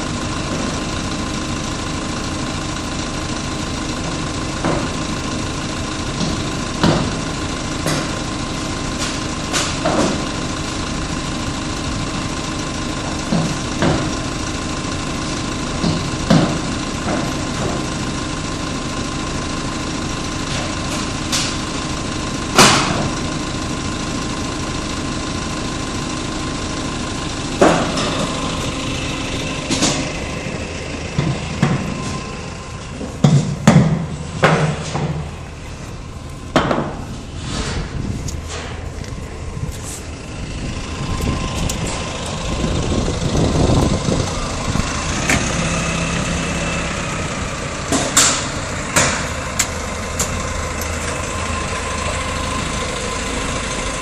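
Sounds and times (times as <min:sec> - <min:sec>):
forklift engine idling: 0:00.0 - 0:54.0.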